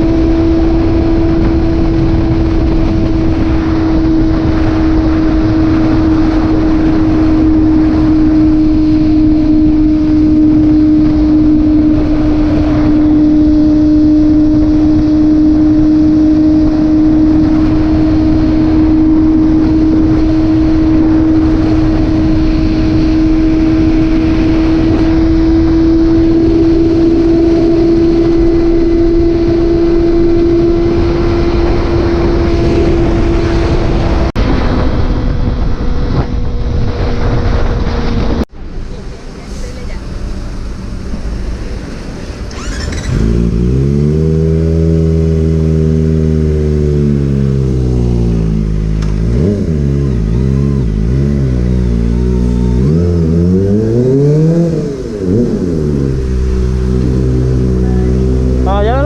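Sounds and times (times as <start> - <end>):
motorcycle engine cruising: 0.0 - 59.0
wind on microphone: 0.0 - 59.0.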